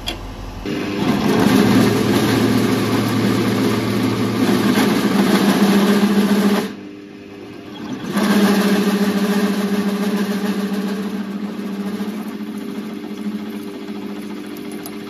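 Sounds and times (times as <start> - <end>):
drill bit cutting metal plate: 0.7 - 14.8.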